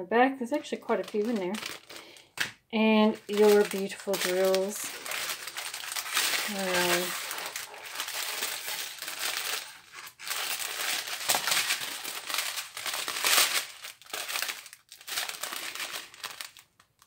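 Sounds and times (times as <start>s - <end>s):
plastic bags crinkling: 0.5s - 17.0s.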